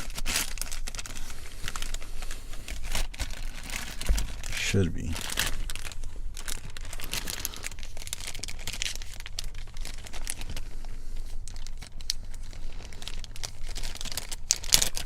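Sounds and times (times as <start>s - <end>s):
crinkling and rustling: 0.0s - 15.0s.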